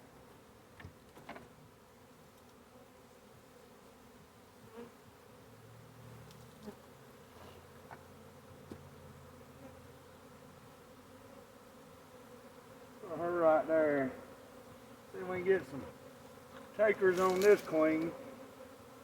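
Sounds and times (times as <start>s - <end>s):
bee swarm buzzing: 1.7s - 19.0s.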